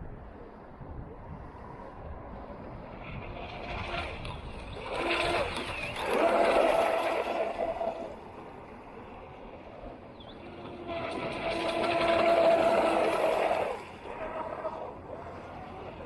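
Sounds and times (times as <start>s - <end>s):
model speedboat motor whine: 1.8s - 16.0s
rushing water: 1.9s - 16.0s.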